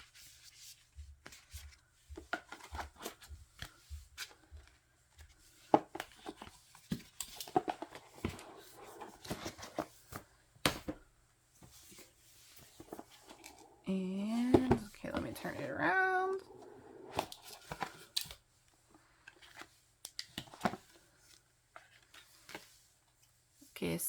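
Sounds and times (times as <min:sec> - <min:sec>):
paper and card rustling: 0:00.0 - 0:11.0, 0:11.6 - 0:23.2.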